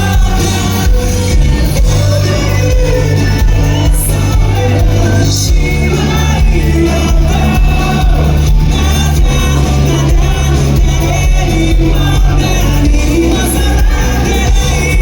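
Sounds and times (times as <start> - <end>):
heavy bass: 0.0 - 15.0
live rock band playing: 0.0 - 15.0
person singing: 0.0 - 15.0
steady drums: 0.0 - 15.0.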